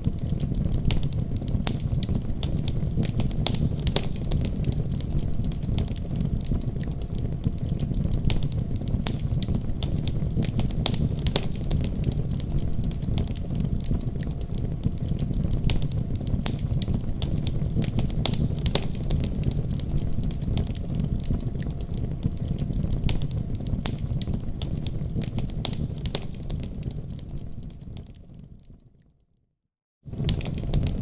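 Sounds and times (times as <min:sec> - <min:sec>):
fire crackling and popping: 0:00.0 - 0:29.0, 0:30.1 - 0:31.0
low rumble of flames: 0:00.0 - 0:29.0, 0:30.1 - 0:31.0.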